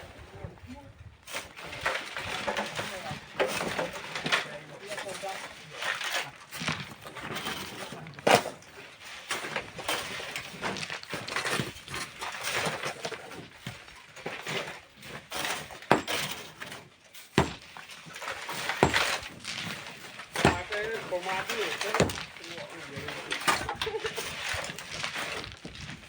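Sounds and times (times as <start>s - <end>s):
tools scraping stone and sand: 1.2s - 26.0s.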